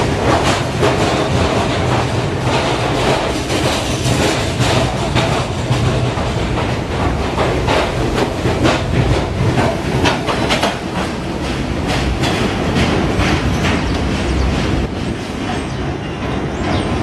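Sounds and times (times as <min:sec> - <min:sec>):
subway train rumbling past: 0:00.0 - 0:17.0
wheels clicking over rail joints: 0:00.0 - 0:17.0.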